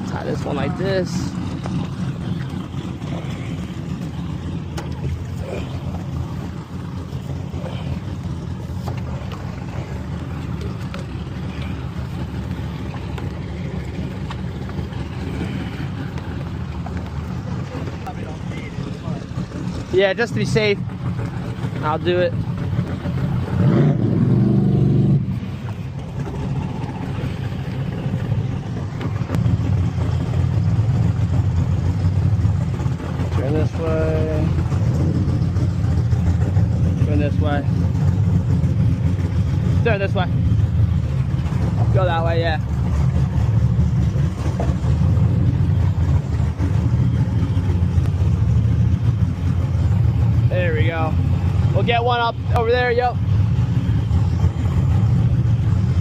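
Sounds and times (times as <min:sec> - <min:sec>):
speed boat engine running: 0:00.0 - 0:56.0.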